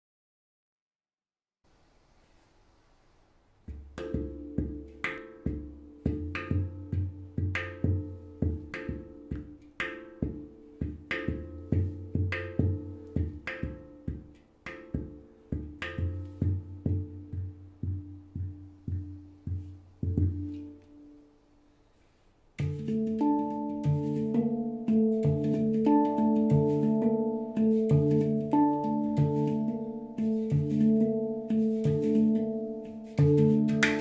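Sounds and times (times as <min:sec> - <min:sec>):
handpan melody played with fingers: 0:03.6 - 0:21.3, 0:22.6 - 0:34.0.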